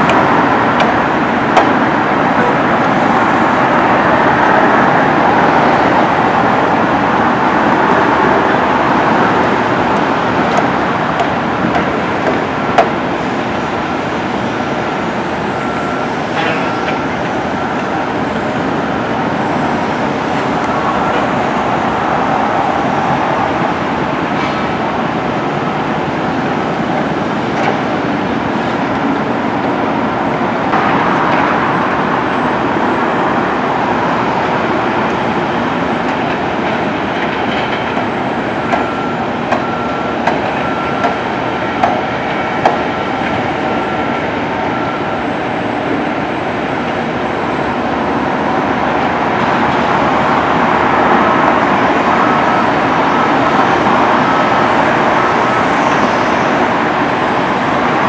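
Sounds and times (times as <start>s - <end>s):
rail clicks: 0.0s - 58.0s
train rumbling along track: 0.0s - 58.0s.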